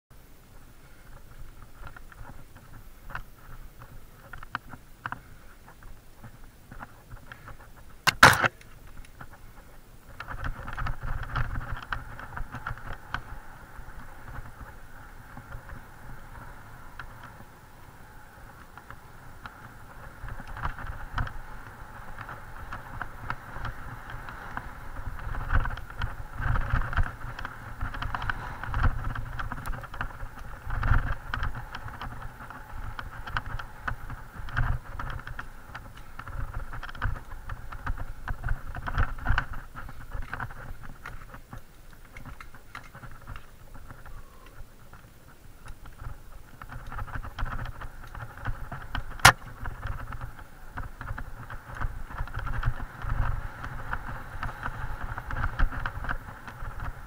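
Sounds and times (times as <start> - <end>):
bike tyre noise: 0.1 - 57.0
wind buffeting: 5.3 - 57.0.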